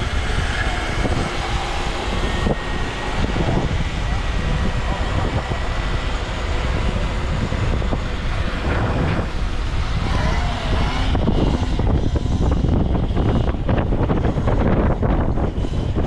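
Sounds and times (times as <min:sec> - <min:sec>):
road noise: 0:00.0 - 0:16.0
wind buffeting microphone: 0:00.0 - 0:16.0.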